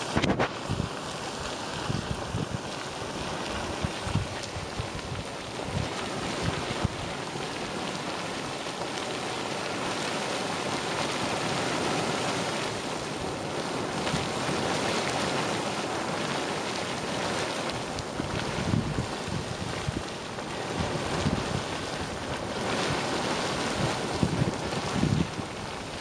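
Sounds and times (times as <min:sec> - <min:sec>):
boiling water bubbling and splashing: 0:00.0 - 0:26.0.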